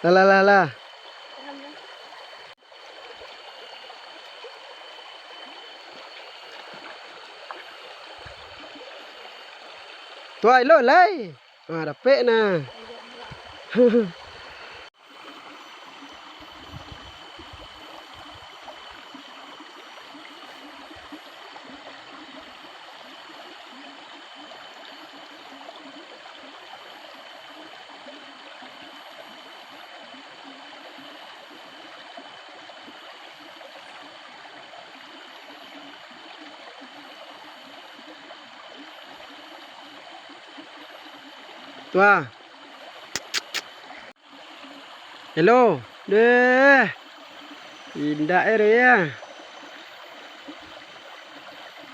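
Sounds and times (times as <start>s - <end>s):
flowing water: 0.0s - 51.9s.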